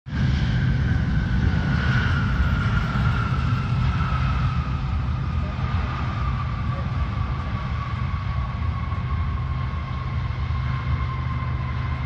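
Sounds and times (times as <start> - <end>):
jet engine whine: 0.1 - 12.0
jet engines rumbling: 0.1 - 12.0.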